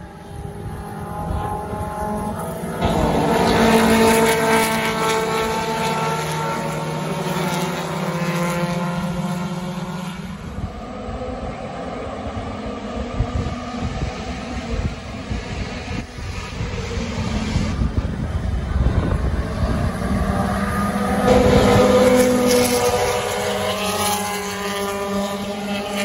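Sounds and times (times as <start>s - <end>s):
racing car engines passing: 0.0s - 26.0s.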